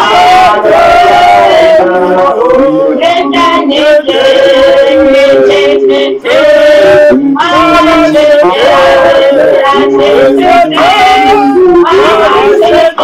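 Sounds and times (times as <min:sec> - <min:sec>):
man singing long held notes: 0:00.0 - 0:13.0.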